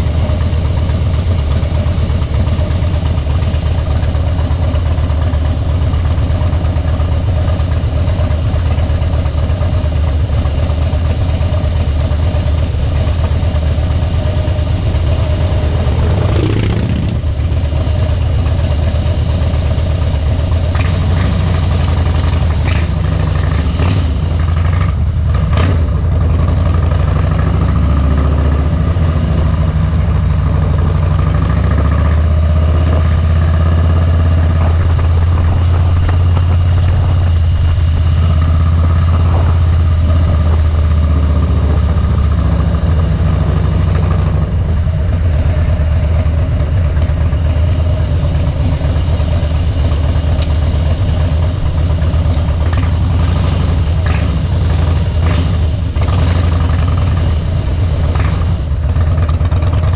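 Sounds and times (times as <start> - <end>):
motorcycle exhaust running: 0.0 - 59.9.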